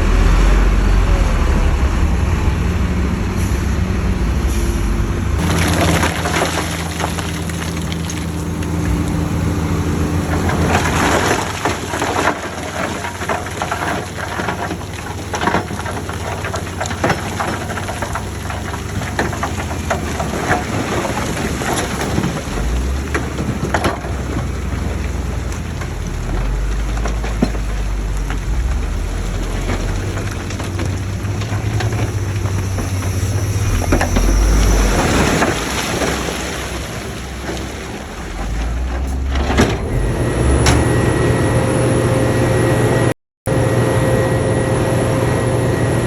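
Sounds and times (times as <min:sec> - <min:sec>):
soil and rocks tumbling: 0:00.0 - 0:41.5
diesel engine running: 0:00.0 - 0:46.0.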